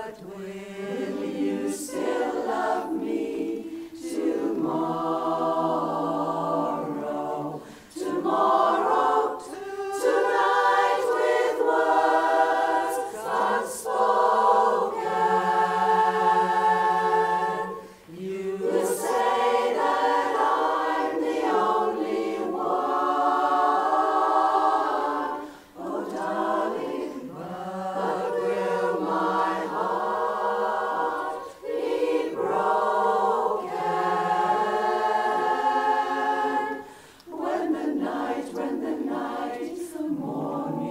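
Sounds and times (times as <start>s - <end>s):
women's chorus singing a cappella: 0.0s - 40.9s.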